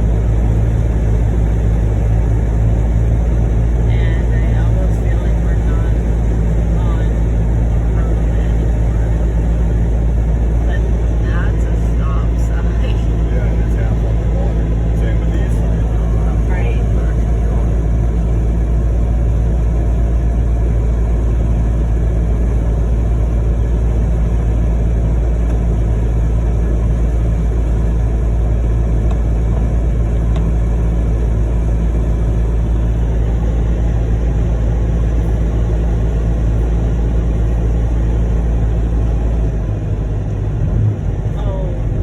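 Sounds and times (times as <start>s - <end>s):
vehicle engine and tyre noise: 0.0s - 42.0s.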